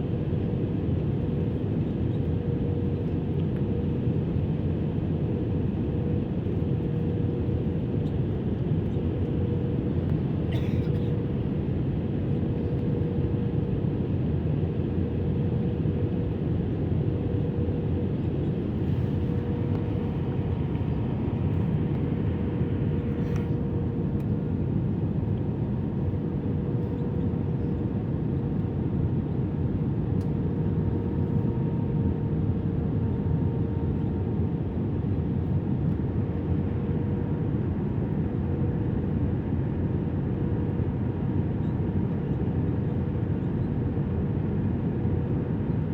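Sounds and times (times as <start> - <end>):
aircraft cabin engine hum: 0.0 - 45.9.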